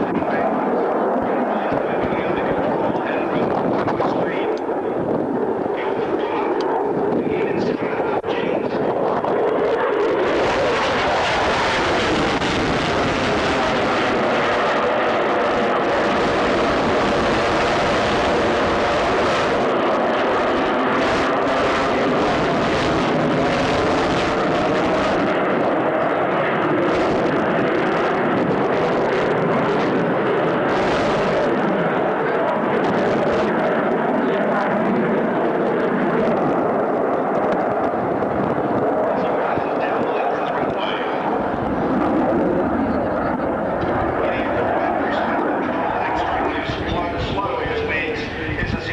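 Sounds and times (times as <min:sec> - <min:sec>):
aircraft engine flying past: 0:00.0 - 0:48.9.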